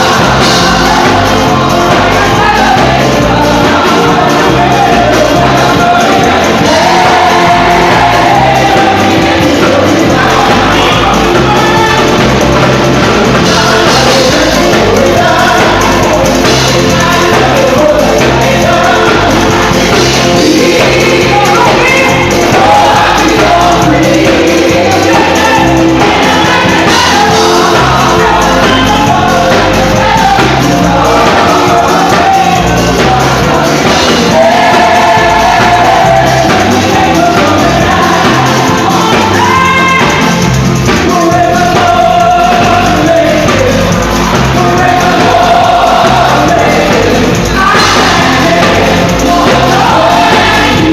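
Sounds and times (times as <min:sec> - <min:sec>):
band playing gospel music: 0:00.0 - 0:50.9
people singing: 0:00.0 - 0:50.9.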